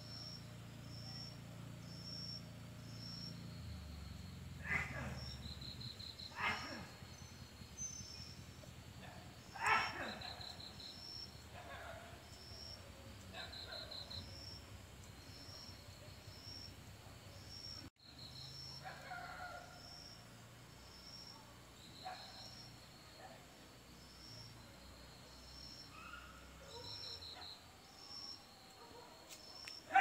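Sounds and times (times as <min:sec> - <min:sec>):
cricket chirping: 0:00.0 - 0:30.0
insect trills: 0:00.0 - 0:30.0.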